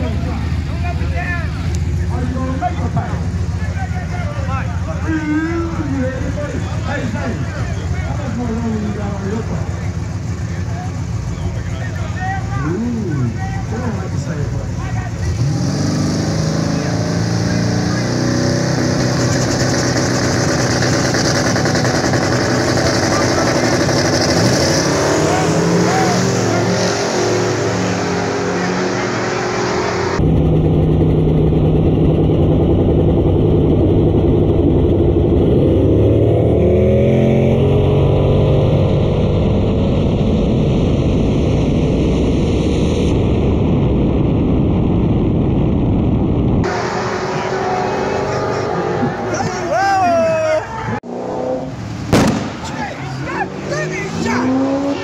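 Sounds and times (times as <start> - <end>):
drag car engines revving: 0.0 - 55.0.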